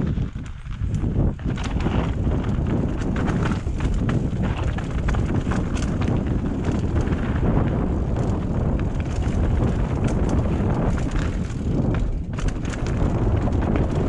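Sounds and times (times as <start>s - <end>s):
wind rumble on microphone: 0.0s - 14.0s
bike rattling knocks: 1.0s - 14.0s.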